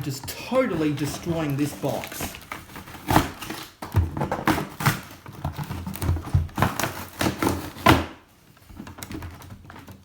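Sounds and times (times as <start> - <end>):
cardboard and packaging rustling: 0.0 - 10.0.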